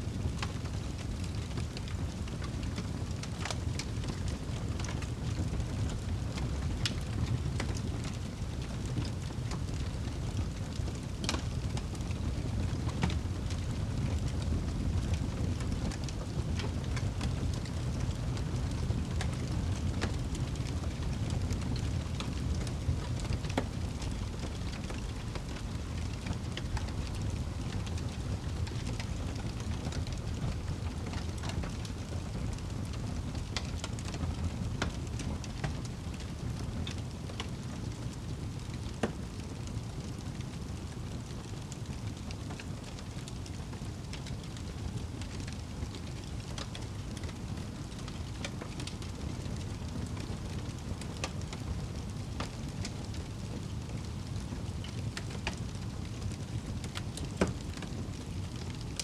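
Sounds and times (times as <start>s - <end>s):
fire burning in fireplace: 0.0s - 59.0s.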